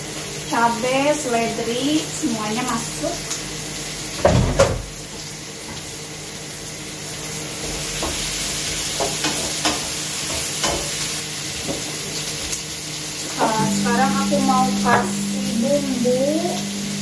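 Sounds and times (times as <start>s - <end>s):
vegetables sizzling in frying pan: 0.0s - 17.0s.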